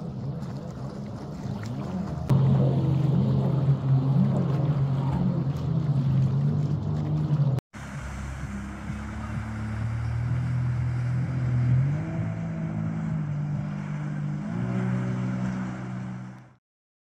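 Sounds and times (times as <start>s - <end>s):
jet ski engine running: 0.0s - 16.6s.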